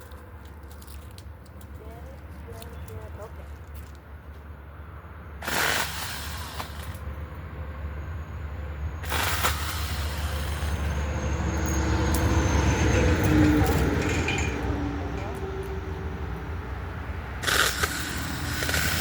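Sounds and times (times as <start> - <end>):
motor vehicle passing: 3.0 - 19.0.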